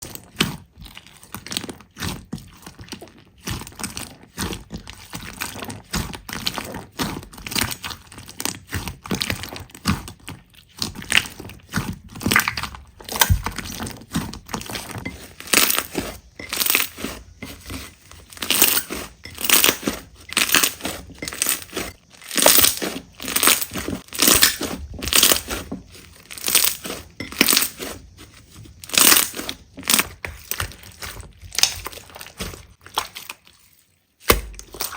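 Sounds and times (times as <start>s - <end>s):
slime squishing by hand: 0.0s - 34.9s.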